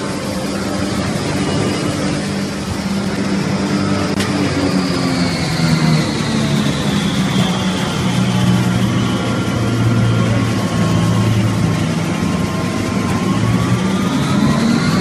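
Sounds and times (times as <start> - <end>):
high whining tones: 0.0 - 15.0
wood grinding mill droning: 0.0 - 15.0.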